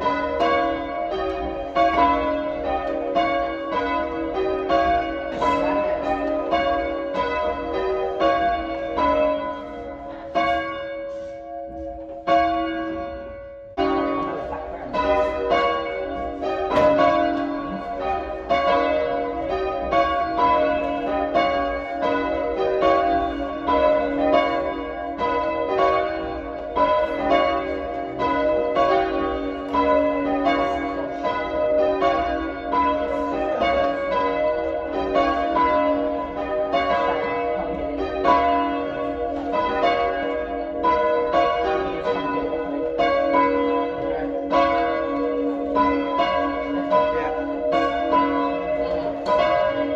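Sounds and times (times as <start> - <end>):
church bells ringing: 0.0 - 49.9.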